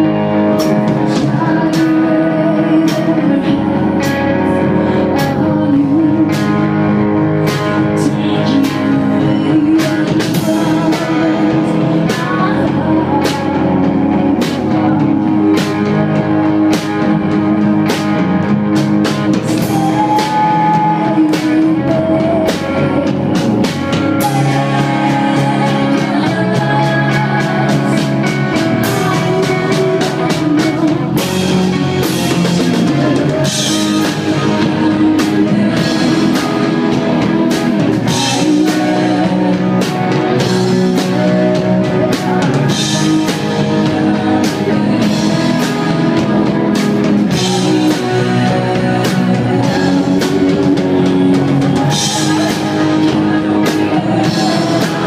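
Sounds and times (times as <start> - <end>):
hard rock band playing: 0.0 - 55.0.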